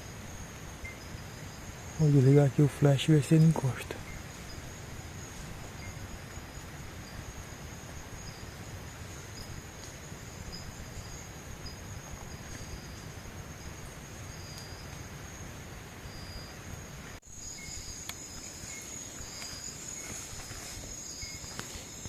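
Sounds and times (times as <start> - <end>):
insect chirps: 0.0 - 22.0
insect high-pitched trill: 0.0 - 22.0.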